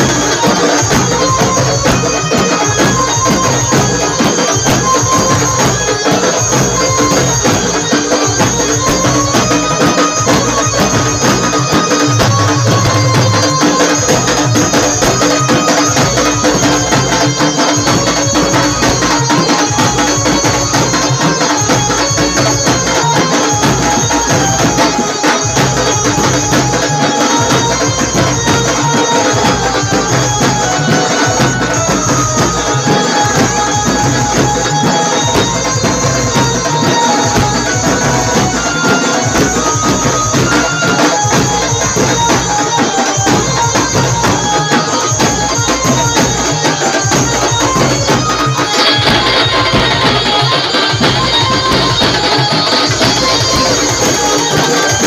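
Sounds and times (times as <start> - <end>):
fast drumming: 0.0 - 55.0.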